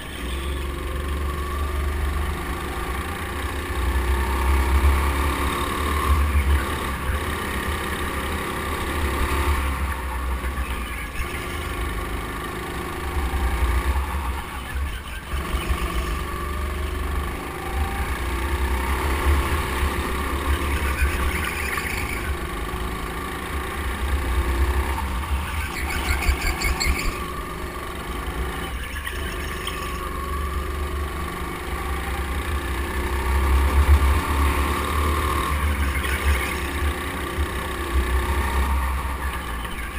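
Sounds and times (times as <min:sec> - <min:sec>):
go-kart engine rumble: 0:00.0 - 0:39.9.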